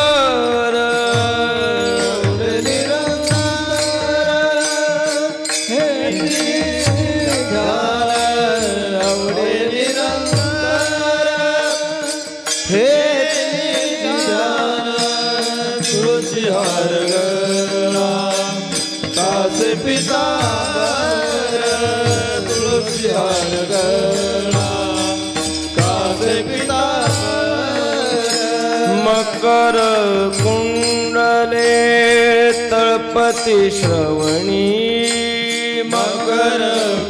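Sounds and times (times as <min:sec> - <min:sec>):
hand cymbals clashing: 0:00.0 - 0:37.0
men singing in chorus: 0:00.0 - 0:37.0.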